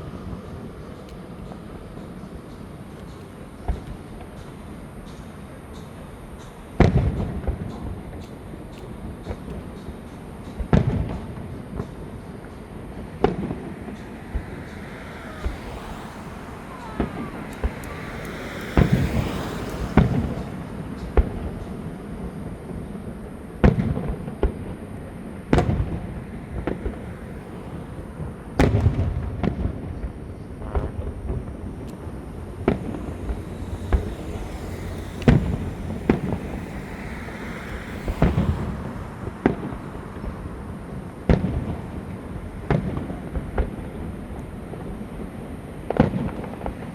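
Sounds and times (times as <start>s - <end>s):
fireworks banging: 0.0s - 46.9s
fireworks hissing: 0.0s - 46.9s.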